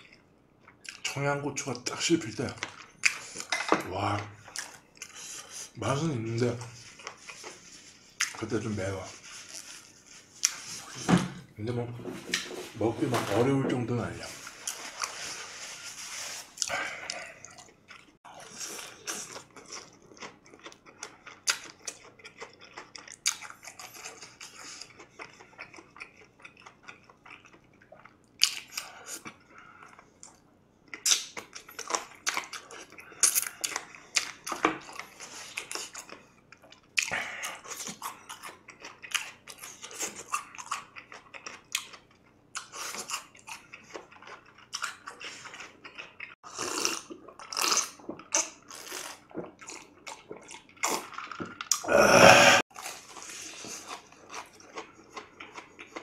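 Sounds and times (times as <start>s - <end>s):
crunching and chewing food: 0.0s - 11.1s, 11.7s - 52.0s, 52.6s - 56.0s.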